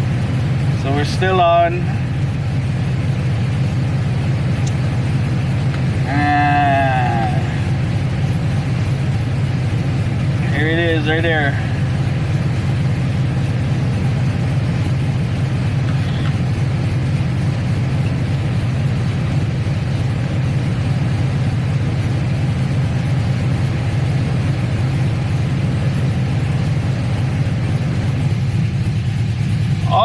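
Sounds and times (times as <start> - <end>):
car engine idling: 0.0 - 30.0
radiator fan air rushing: 0.0 - 30.0.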